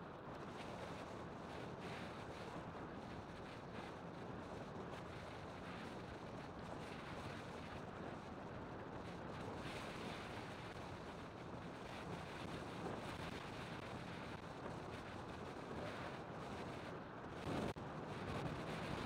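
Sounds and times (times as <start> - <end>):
wind rush on microphone: 0.4 - 19.0.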